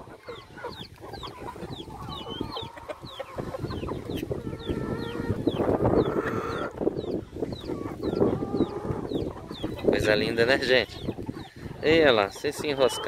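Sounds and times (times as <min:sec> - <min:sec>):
chickens clucking: 0:00.0 - 0:13.0
wind buffeting microphone: 0:00.0 - 0:13.0.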